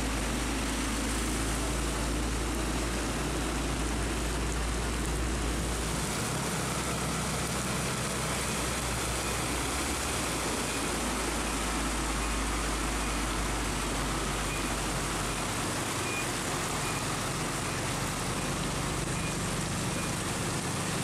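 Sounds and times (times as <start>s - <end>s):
heavy rain hiss: 0.0s - 21.0s
truck engine humming: 0.0s - 21.0s.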